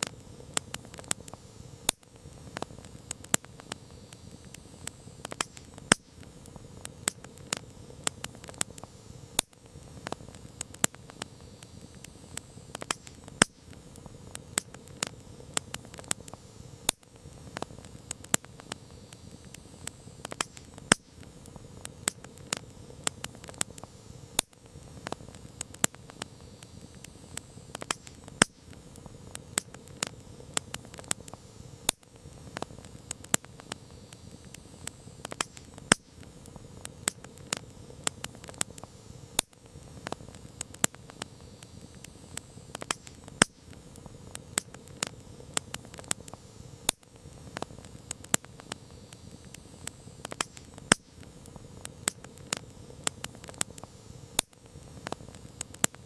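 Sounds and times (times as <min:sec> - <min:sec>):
campfire crackling: 0:00.0 - 0:56.0
hiss of flames: 0:00.0 - 0:56.0.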